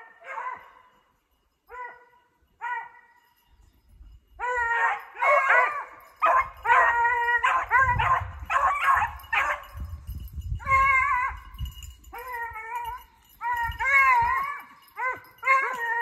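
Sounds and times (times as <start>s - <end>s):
hounds baying: 0.0s - 0.9s, 1.7s - 3.2s, 4.4s - 10.0s, 10.6s - 16.0s.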